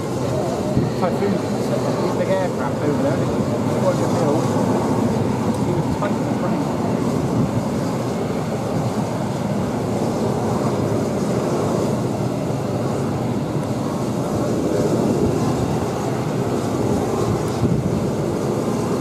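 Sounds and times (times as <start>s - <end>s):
jet aircraft taxiing: 0.0s - 19.0s.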